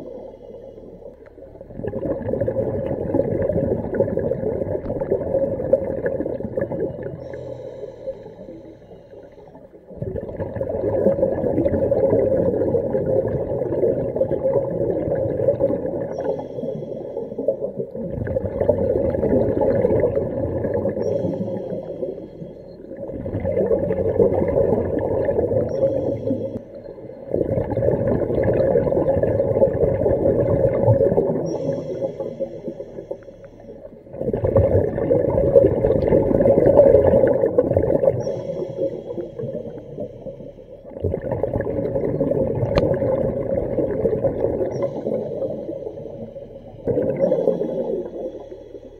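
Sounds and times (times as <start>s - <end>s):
underwater bubbles gurgling: 0.0s - 48.9s.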